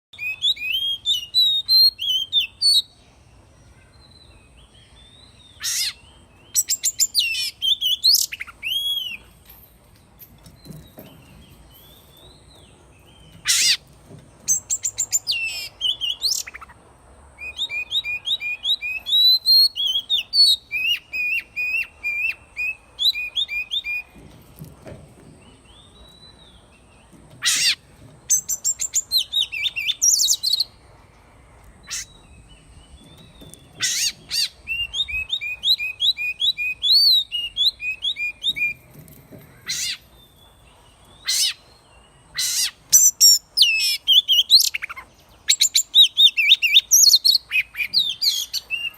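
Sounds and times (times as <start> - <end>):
bird singing whistles and chirps: 0.2 - 3.0, 3.8 - 9.4, 14.5 - 16.8, 17.4 - 24.3, 25.4 - 30.8, 31.9 - 39.0, 39.6 - 48.9.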